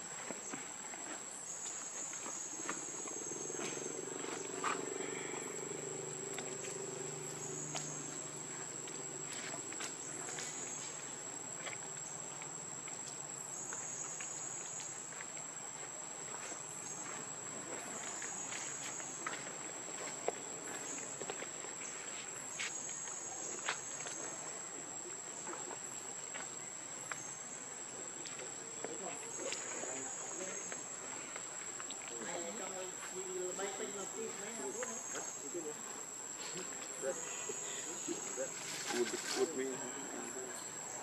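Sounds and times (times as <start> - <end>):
insects droning high-pitched: 0.0 - 41.0
small ticks and rustles: 0.1 - 33.2, 36.3 - 39.6.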